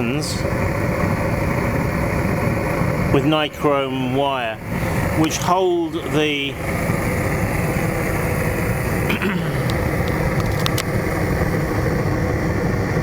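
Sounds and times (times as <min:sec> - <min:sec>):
burner flame rushing: 0:00.0 - 0:13.0.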